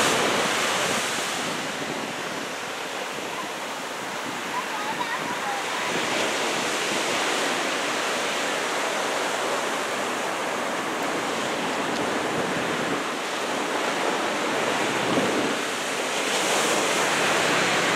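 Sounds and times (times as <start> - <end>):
ocean surf breaking: 0.0 - 17.9.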